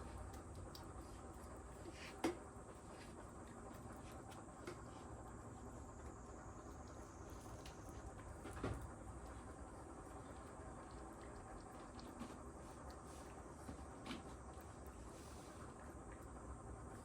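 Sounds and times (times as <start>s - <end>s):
cat licking and chewing: 0.0s - 17.0s.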